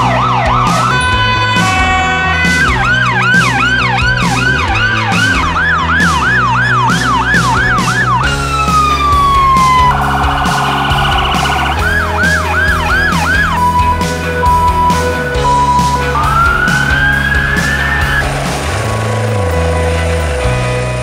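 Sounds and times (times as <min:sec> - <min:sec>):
electronic siren yelp: 0:00.0 - 0:18.5
fast trilling tone: 0:00.0 - 0:19.3
music with steady beat: 0:00.0 - 0:19.7.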